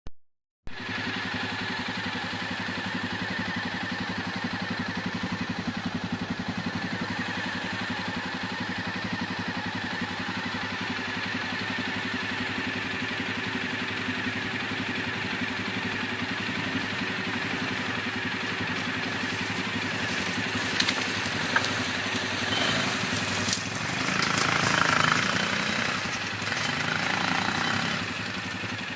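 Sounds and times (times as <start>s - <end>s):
atv engine running: 0.7s - 28.9s.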